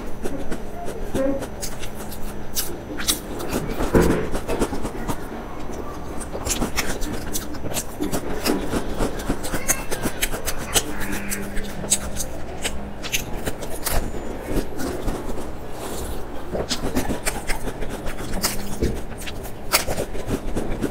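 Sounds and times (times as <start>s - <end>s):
crunching of crisp pastry: 1.4s - 20.9s.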